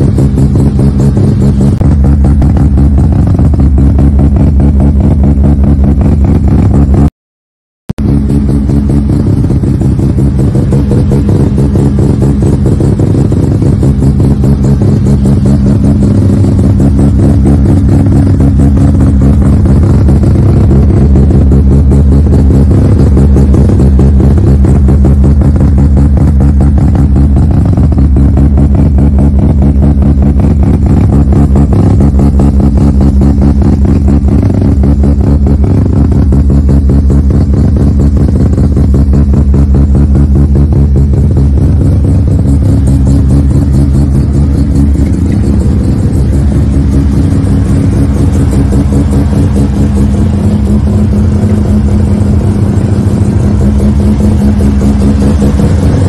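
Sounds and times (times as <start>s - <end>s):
rotary engine idling: 0.0s - 7.1s, 8.0s - 56.0s.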